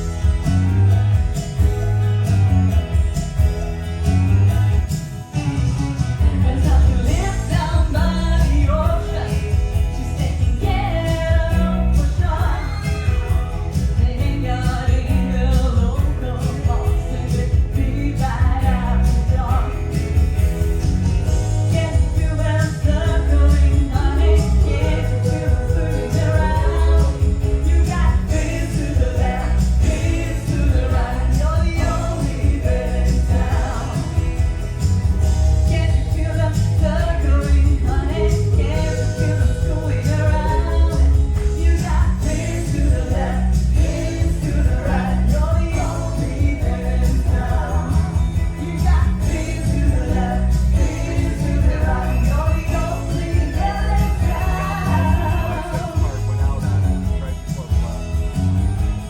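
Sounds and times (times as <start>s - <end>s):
heavy bass beat: 0.0s - 59.0s
person singing: 5.6s - 20.6s, 21.3s - 57.4s.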